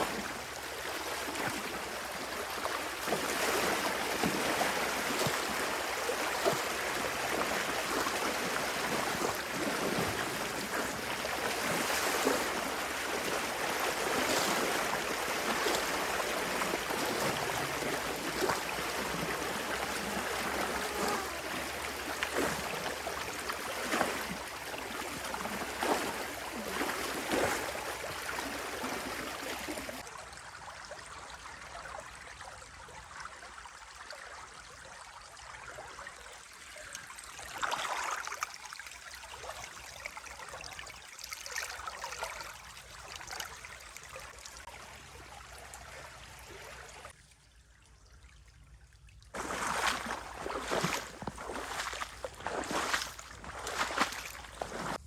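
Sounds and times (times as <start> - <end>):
water rushing and splashing: 0.0 - 47.2, 49.4 - 55.0.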